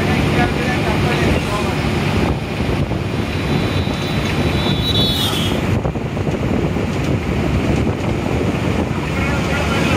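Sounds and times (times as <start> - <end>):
road noise: 0.0 - 9.9
wind buffeting microphone: 0.0 - 9.9.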